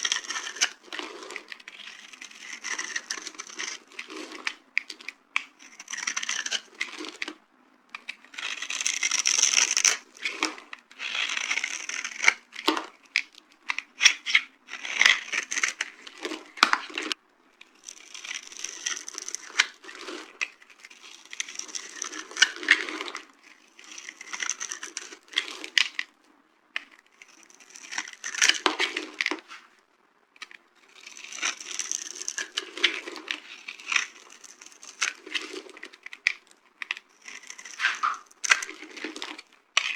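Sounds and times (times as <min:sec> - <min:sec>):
dry soap crunching: 0:00.0 - 0:29.8, 0:30.4 - 0:39.9.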